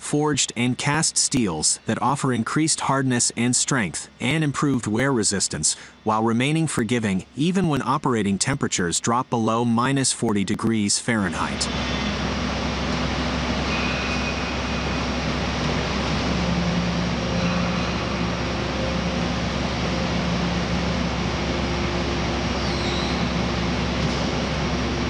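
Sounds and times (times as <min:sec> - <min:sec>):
steady mechanical drone: 0:00.0 - 0:25.0.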